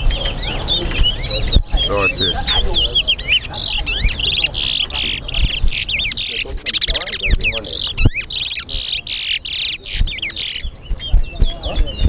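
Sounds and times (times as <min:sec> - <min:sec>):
finch singing warbling song: 0:00.0 - 0:12.0.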